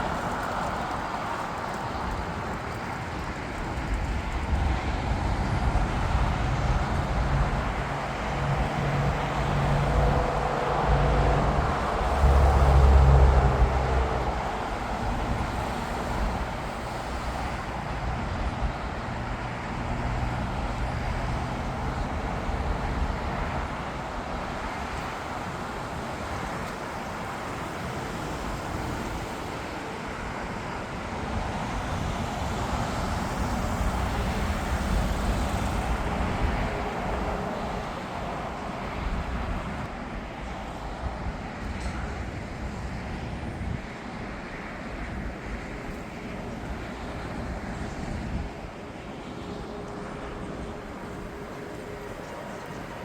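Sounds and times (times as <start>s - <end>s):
distant jet aircraft: 0.0s - 53.0s
road traffic: 0.0s - 53.0s.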